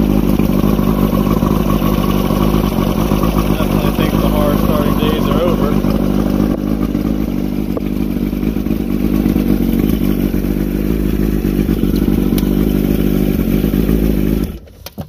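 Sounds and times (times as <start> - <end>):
outboard engine running: 0.0 - 14.7.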